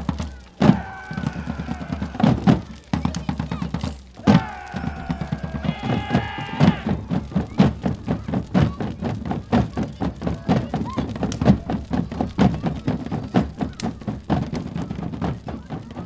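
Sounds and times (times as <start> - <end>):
group of drummers pounding: 0.0 - 16.0.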